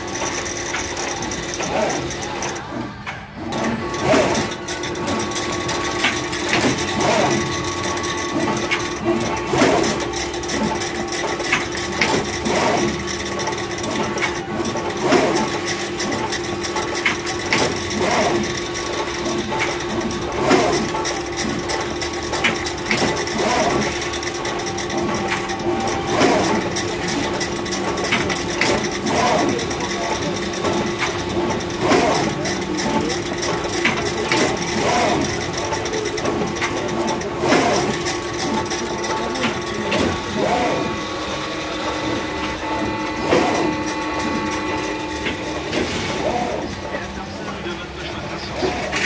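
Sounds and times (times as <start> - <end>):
machine hum: 0.0 - 49.0
rapid machine clicking and clatter: 0.0 - 49.0.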